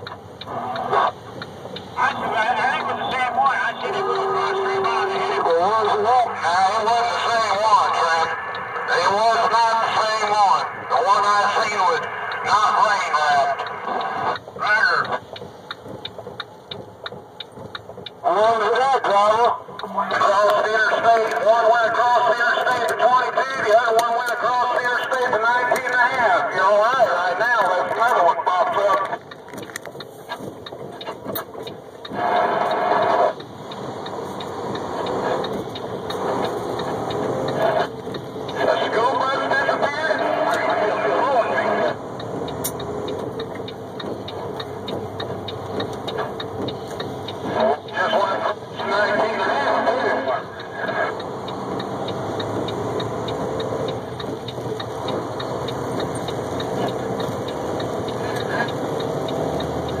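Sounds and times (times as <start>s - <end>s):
light ticks: 0.0s - 2.2s, 11.6s - 18.3s, 19.0s - 40.7s, 41.9s - 49.0s, 49.6s - 60.0s
truck road and engine noise: 0.0s - 60.0s.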